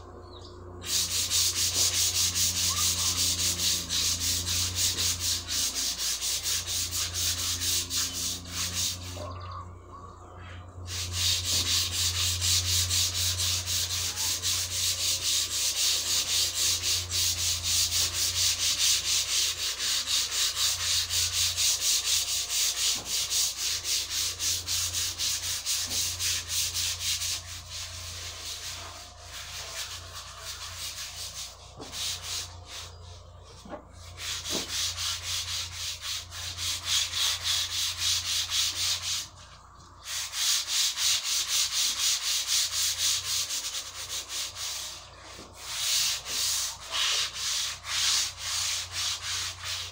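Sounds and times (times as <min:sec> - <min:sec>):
sandpaper rubbing wood: 0:00.8 - 0:09.3, 0:10.8 - 0:49.9.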